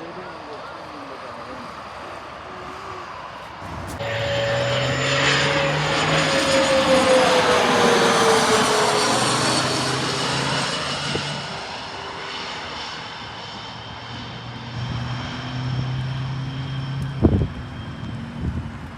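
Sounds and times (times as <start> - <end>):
airplane passing: 0.0 - 18.9.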